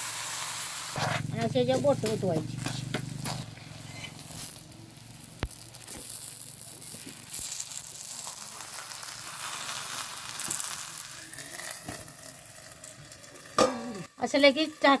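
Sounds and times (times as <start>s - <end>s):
dough sizzling in oil: 0.0s - 15.0s.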